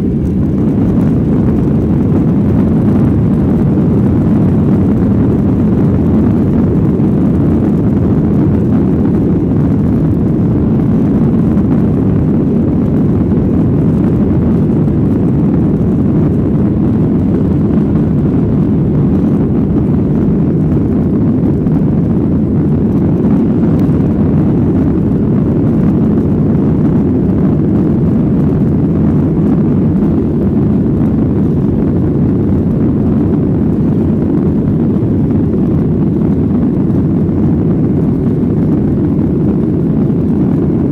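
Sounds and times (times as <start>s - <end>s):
jet engine noise in cabin: 0.0s - 40.9s.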